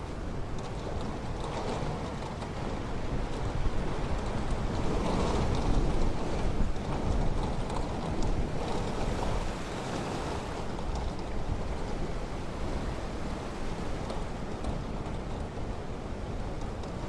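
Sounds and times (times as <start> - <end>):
ocean surf washing onto beach: 0.0 - 17.0
wind buffeting microphone: 0.0 - 17.0.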